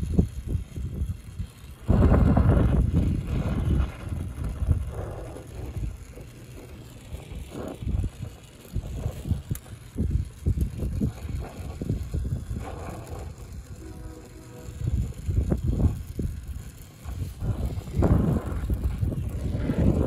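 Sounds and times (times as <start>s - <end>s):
torch flame hissing: 0.0s - 20.0s
wind buffeting microphone: 0.0s - 20.0s.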